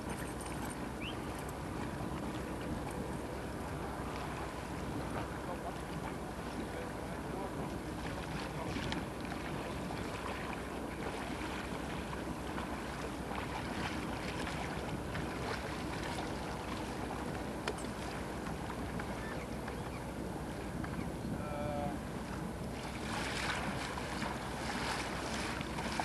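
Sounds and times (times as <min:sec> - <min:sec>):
motorboats droning: 0:00.0 - 0:26.0.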